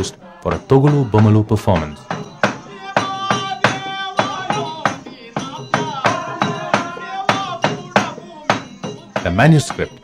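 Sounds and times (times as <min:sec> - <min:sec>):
person singing: 0:00.0 - 0:09.0
sharp percussive clacks: 0:00.0 - 0:10.0.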